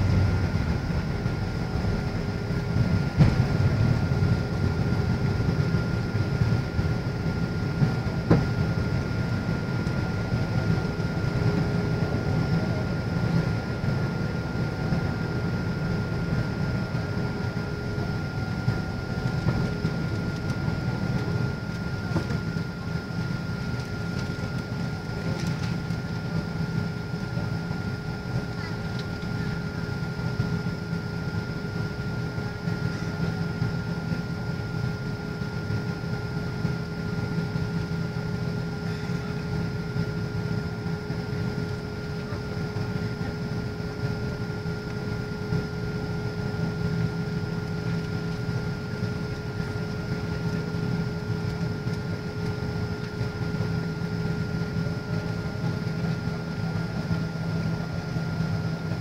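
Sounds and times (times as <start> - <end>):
jet engine and airflow rumble: 0.0 - 59.0
steady whining tones: 0.0 - 59.0.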